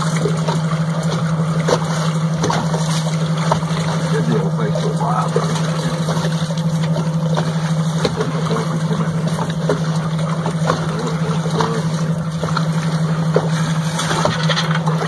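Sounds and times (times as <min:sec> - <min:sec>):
boat engine humming: 0:00.0 - 0:15.0
water lapping against hull: 0:00.0 - 0:15.0.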